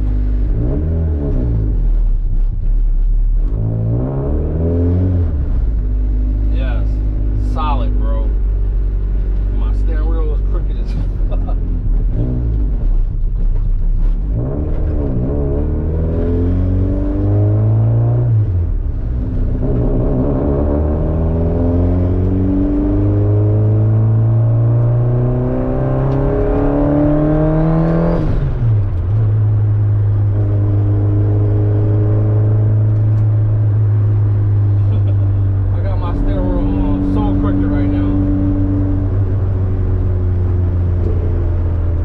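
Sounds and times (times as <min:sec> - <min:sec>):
car engine accelerating through gears: 0:00.0 - 0:42.0.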